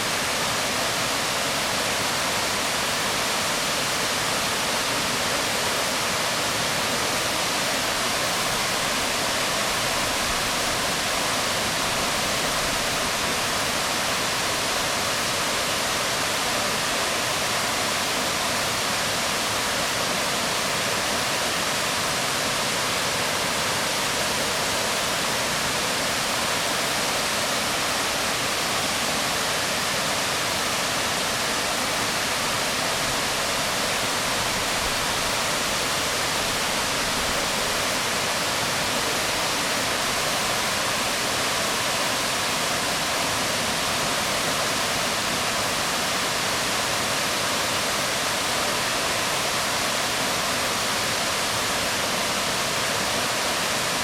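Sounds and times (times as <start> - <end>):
waterfall rushing onto rocks: 0.0 - 54.0.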